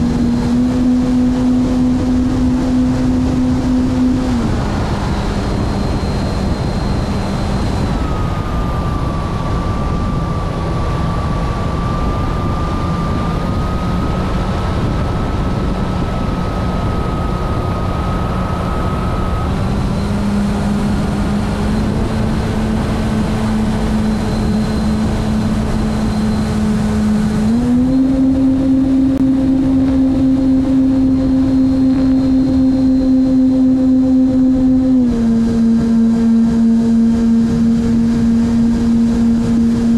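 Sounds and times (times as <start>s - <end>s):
rushing air noise: 0.0s - 32.9s
model airplane motor drone: 0.0s - 39.9s.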